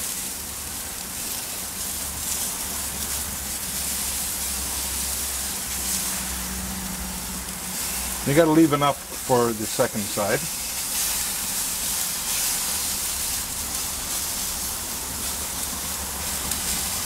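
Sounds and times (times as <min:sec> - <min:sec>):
bacon sizzling on a grill: 0:00.0 - 0:17.0.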